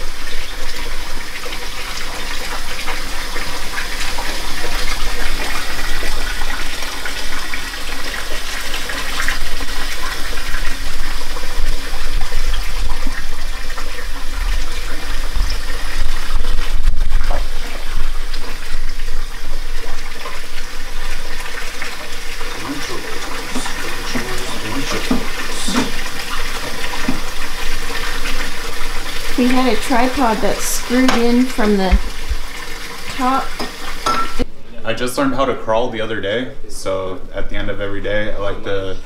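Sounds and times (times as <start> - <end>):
tap water running into sink: 0.0 - 34.5.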